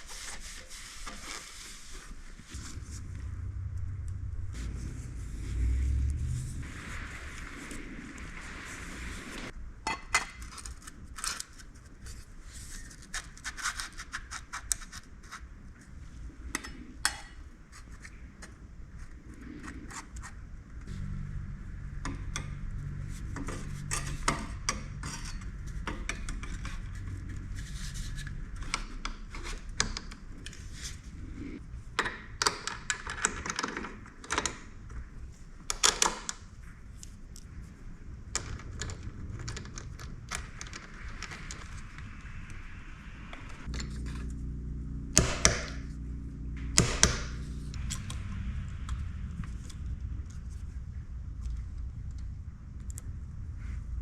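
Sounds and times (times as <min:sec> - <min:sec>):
low steady hum: 0:00.0 - 0:13.2, 0:15.4 - 0:35.7, 0:36.3 - 0:54.0.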